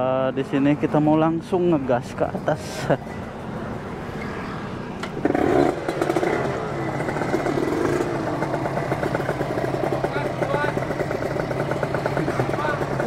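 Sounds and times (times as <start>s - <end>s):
motorcycle engine revving: 2.0s - 13.0s.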